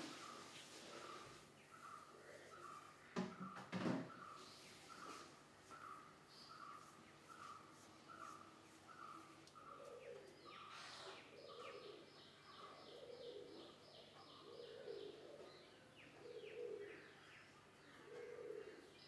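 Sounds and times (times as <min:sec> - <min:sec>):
birds calling higher: 0:00.0 - 0:19.0.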